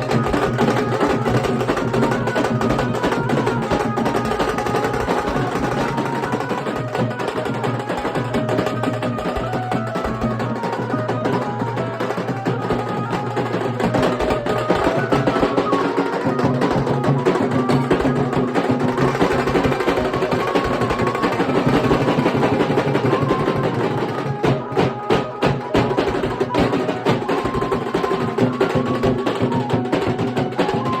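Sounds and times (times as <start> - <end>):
dhol drumming: 0.0 - 31.0
held melody line: 0.0 - 31.0.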